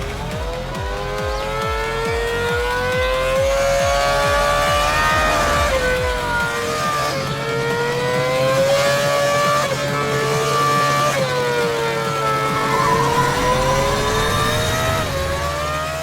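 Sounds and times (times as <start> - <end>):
race car engine running hard: 0.0 - 16.0.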